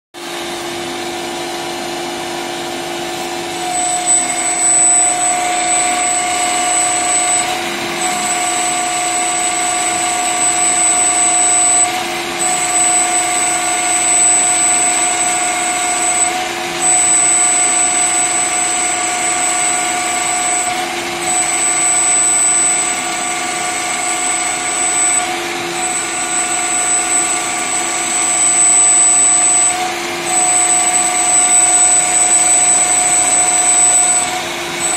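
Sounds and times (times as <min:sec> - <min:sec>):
high machine whine: 0:00.2 - 0:34.9
lathe motor hum: 0:00.3 - 0:34.9.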